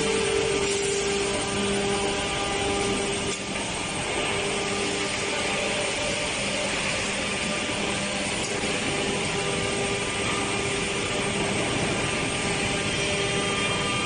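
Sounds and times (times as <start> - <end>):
woodworking machinery running: 0.0 - 14.0.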